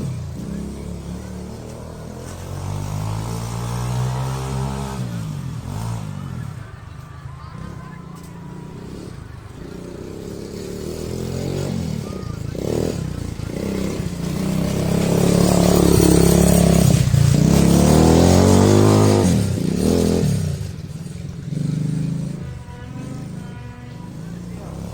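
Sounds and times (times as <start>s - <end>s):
quad bike engine revving: 0.0s - 24.9s.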